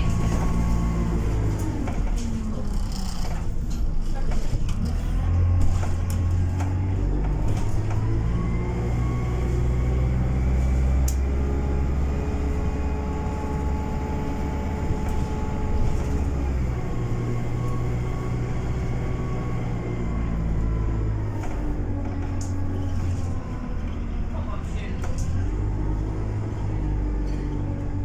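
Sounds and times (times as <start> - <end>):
bus engine rumble: 0.0 - 28.0.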